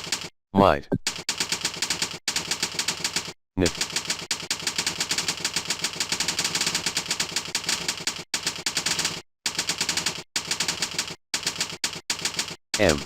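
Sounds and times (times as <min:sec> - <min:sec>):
fast typing on keyboard: 0:00.0 - 0:00.3, 0:01.1 - 0:13.0.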